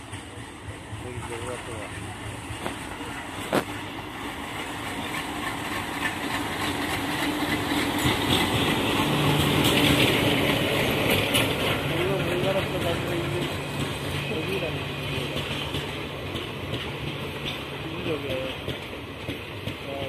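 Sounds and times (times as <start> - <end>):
diesel locomotive engine running: 0.0 - 20.0
train wheels clattering over rail joints: 0.0 - 20.0.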